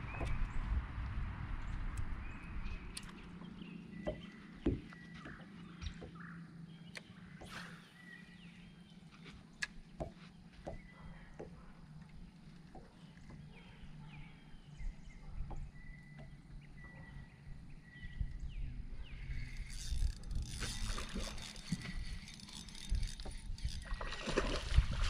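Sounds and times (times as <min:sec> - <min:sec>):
water lapping against boat hull: 0:02.3 - 0:18.2, 0:19.0 - 0:25.0.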